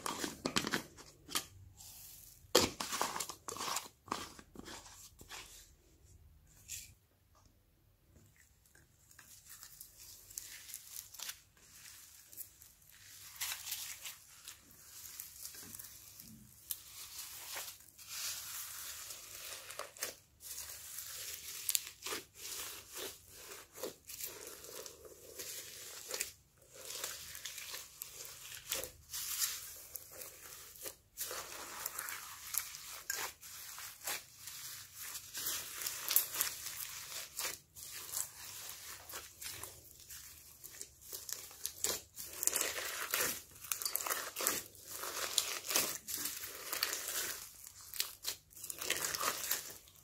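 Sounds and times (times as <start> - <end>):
slime crackling and squishing: 0.0 - 5.6, 8.6 - 50.0.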